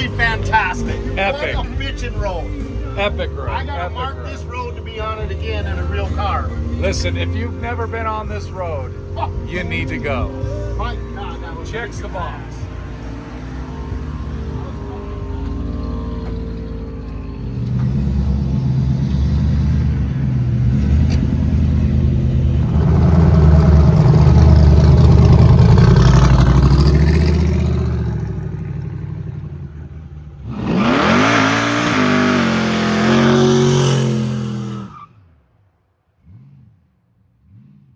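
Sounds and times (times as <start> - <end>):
car engine revving: 0.0 - 35.1, 36.2 - 37.9.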